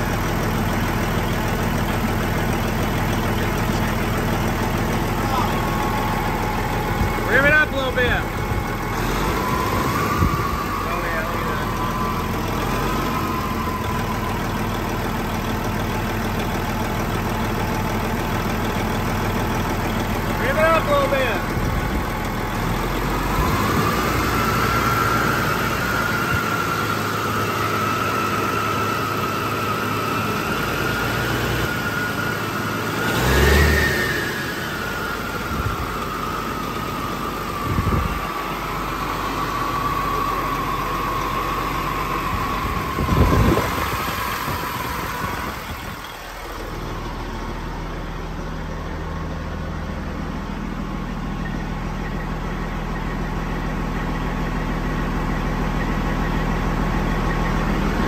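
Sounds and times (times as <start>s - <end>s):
diesel truck engine idling: 0.0s - 58.0s
steady engine whine: 0.0s - 58.0s.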